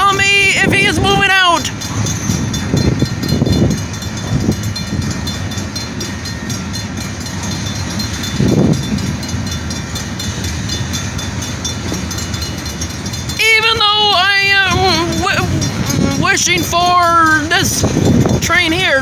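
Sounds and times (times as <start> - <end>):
freight train rumbling on rails: 0.0 - 19.0.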